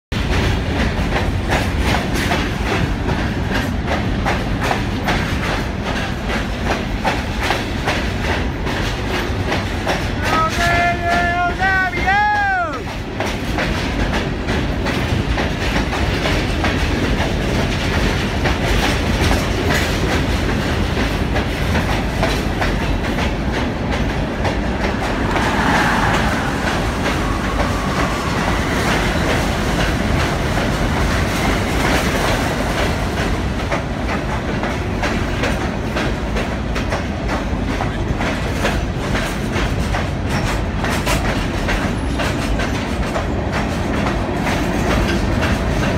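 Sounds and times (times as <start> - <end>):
passing passenger train rush: 0.1 - 45.9
train wheels clattering over rail joints: 0.2 - 11.5, 12.3 - 45.9.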